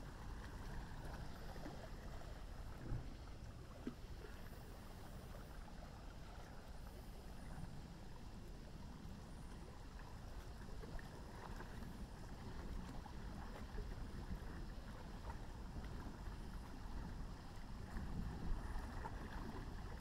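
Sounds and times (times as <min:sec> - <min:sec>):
light hiss of river: 0:00.0 - 0:20.0.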